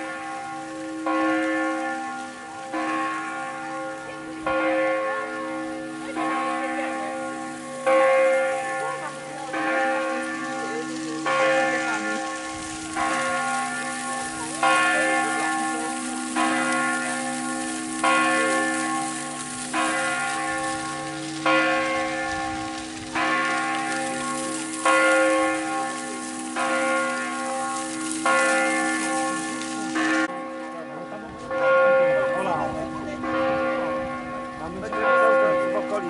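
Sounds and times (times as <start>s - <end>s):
church bell tolling: 0.0s - 36.0s
fountain splashing: 0.0s - 36.0s.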